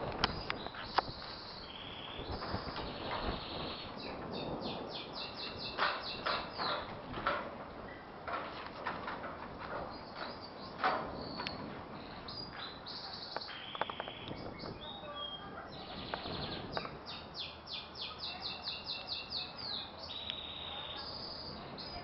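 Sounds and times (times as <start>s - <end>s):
small birds chirping: 0.1s - 7.1s, 9.7s - 22.0s.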